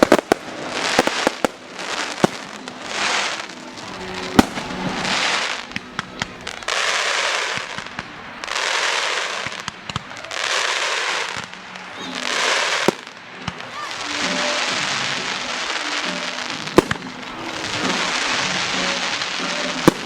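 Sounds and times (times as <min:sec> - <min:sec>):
firework bangs: 0:00.0 - 0:20.0
fireworks hissing and crackling: 0:00.0 - 0:20.0.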